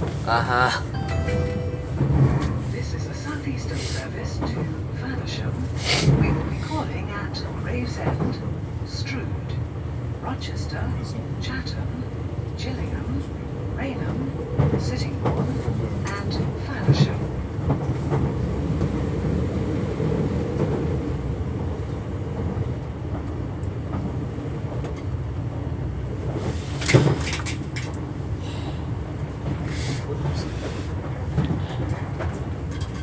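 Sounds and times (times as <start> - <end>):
train interior rumble: 0.0 - 33.0.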